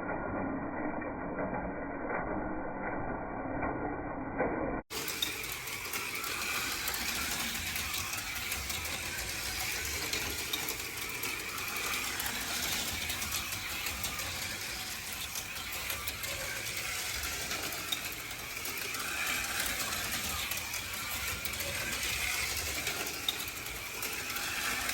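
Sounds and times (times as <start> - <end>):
slot car motors whirring: 4.9 - 24.9.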